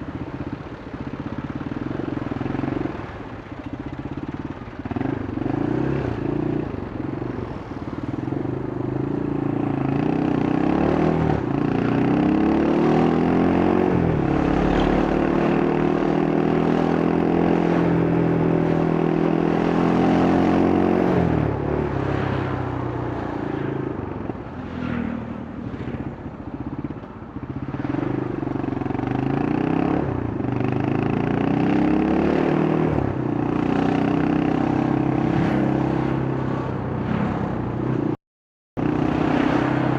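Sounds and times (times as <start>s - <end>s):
wind and road noise: 0.0s - 38.2s, 38.8s - 39.9s
motorcycle engine revving: 1.5s - 7.4s, 8.2s - 38.2s, 38.8s - 39.9s.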